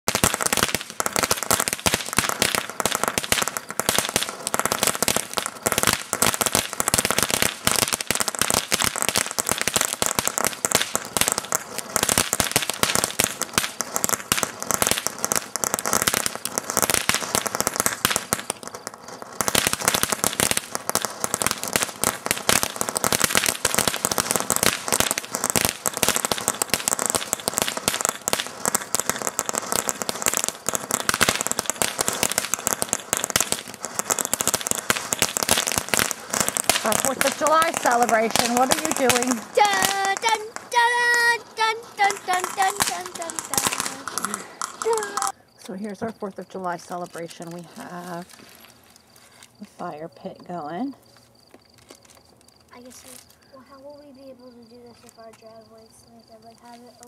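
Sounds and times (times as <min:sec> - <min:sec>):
firework crackling: 0:00.0 - 0:57.0.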